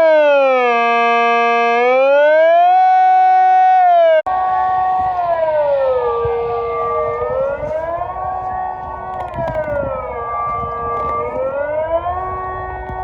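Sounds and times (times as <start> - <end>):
electronic siren wailing: 0.0 - 13.0.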